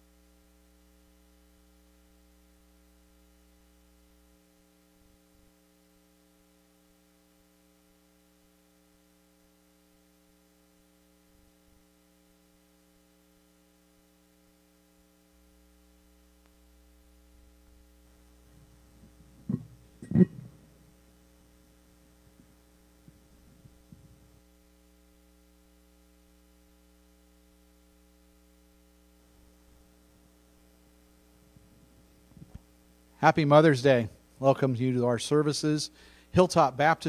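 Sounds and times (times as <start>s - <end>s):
electrical mains hum: 0.0s - 37.0s.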